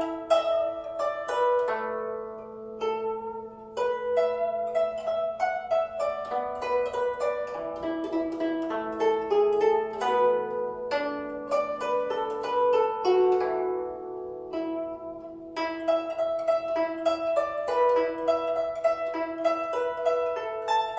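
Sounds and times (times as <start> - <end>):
plucked zither melody: 0.0 - 20.9.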